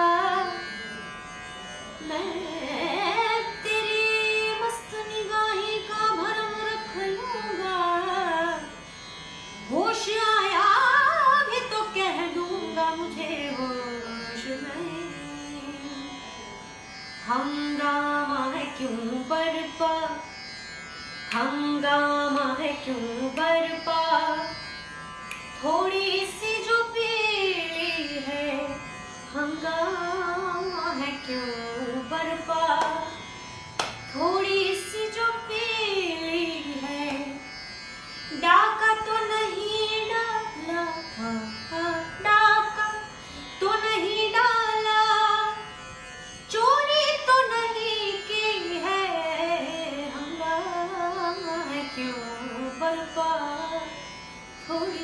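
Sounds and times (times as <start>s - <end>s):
woman singing: 0.0s - 0.8s, 2.0s - 8.7s, 9.6s - 16.2s, 17.2s - 20.2s, 21.3s - 24.6s, 25.6s - 33.2s, 34.1s - 37.4s, 38.3s - 45.7s, 46.5s - 54.0s, 54.6s - 55.0s.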